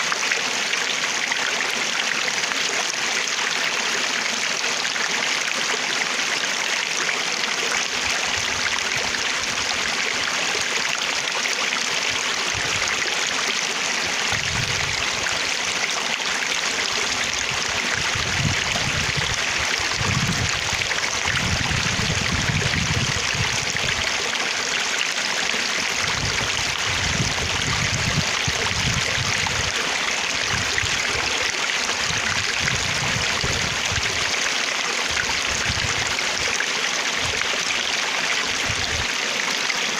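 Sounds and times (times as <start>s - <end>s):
flowing water rushing: 0.0s - 39.9s
low-pitched water surges: 0.0s - 39.9s.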